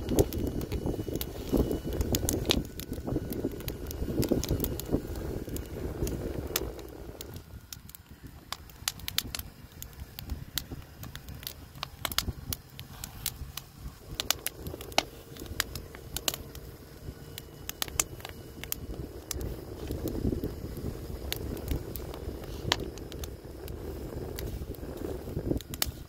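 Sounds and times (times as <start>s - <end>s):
logs popping: 0.0s - 26.0s
wood fire crackling: 0.0s - 26.0s.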